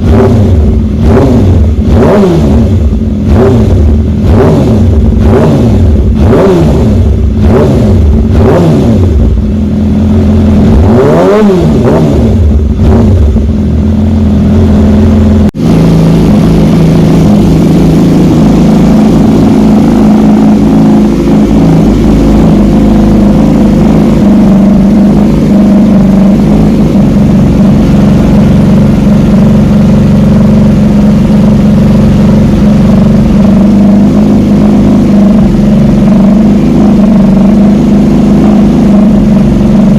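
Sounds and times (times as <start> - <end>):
engine running at steady pitch: 0.0 - 39.9
motorcycle engine revving: 0.0 - 39.9.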